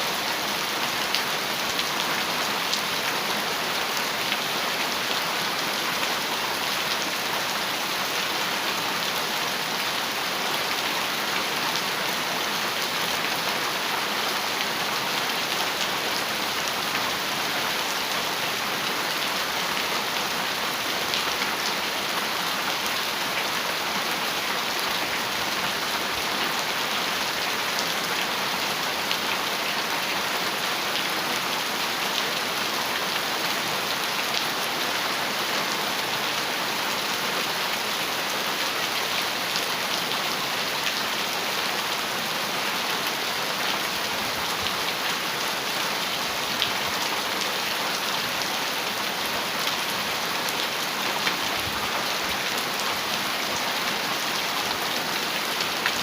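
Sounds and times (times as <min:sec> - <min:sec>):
heavy rain on a metal roof: 0:00.0 - 0:56.0.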